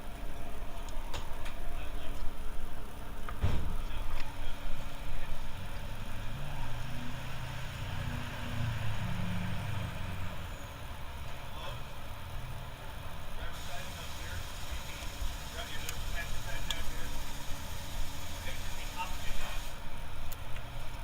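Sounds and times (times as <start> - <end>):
low rumbling shop noise: 0.0 - 21.0.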